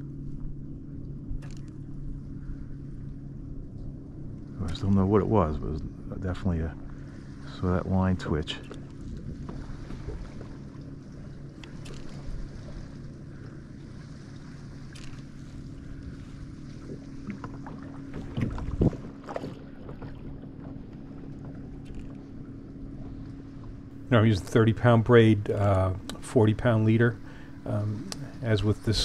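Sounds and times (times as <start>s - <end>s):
water around hull: 0.0s - 29.0s.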